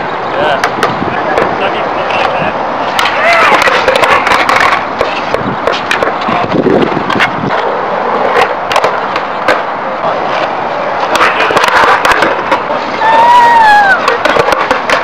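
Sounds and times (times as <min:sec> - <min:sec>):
skateboard wheels rolling on concrete: 0:00.0 - 0:15.0
skateboard wooden clacks: 0:00.5 - 0:15.0.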